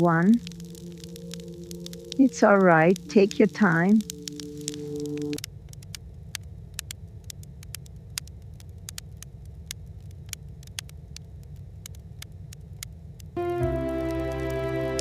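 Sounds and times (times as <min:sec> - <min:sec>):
wood stove fire crackling: 0:00.0 - 0:15.0.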